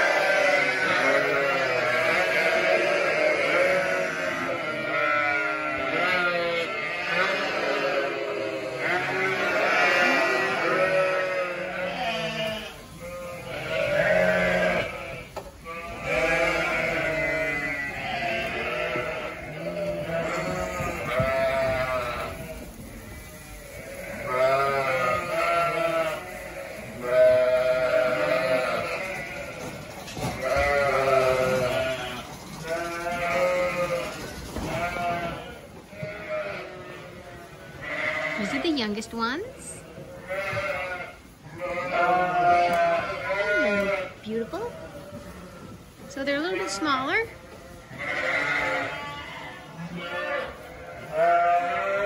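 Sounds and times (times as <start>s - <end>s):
lambs bleating: 0.0s - 52.0s.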